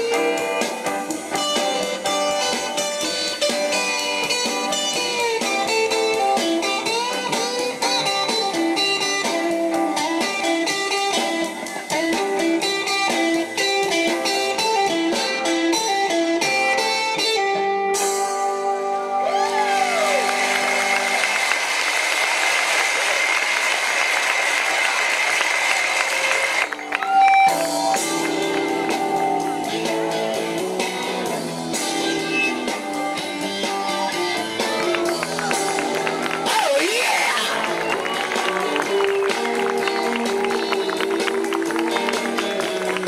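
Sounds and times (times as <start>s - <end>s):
electric guitar solo: 0.0s - 21.3s, 26.6s - 43.0s.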